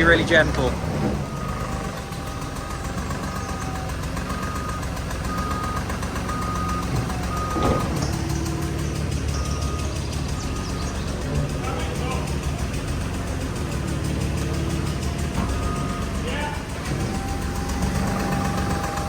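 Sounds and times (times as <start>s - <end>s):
vehicle warning beeps: 0.0s - 12.8s, 14.2s - 19.0s
low engine hum: 0.0s - 19.0s.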